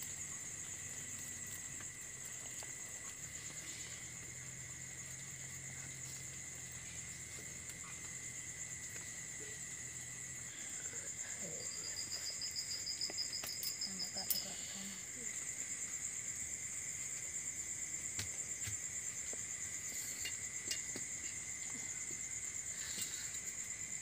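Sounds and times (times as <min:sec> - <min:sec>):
crickets trilling: 0:00.0 - 0:24.0
lower cricket trill: 0:00.0 - 0:24.0.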